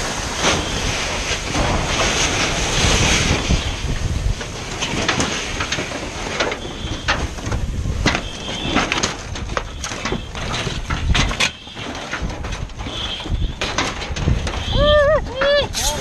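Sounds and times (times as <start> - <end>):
burning barn crackling and popping: 0.0 - 16.0
low steady fire rumble: 0.0 - 16.0.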